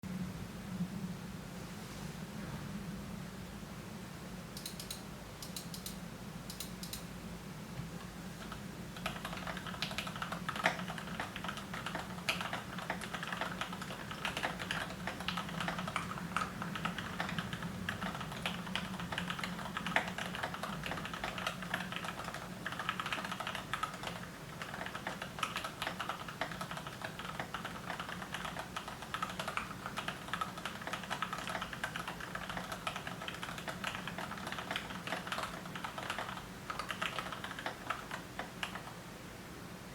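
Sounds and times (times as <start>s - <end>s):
low steady hum: 0.0s - 39.9s
mechanical keyboard typing: 4.6s - 7.0s, 8.4s - 39.0s.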